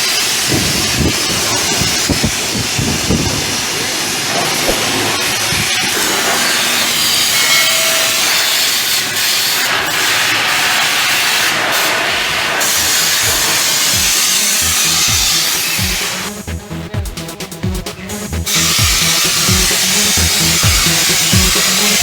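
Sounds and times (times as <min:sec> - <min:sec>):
pressure washer spraying water: 0:00.0 - 0:16.5, 0:18.4 - 0:22.0.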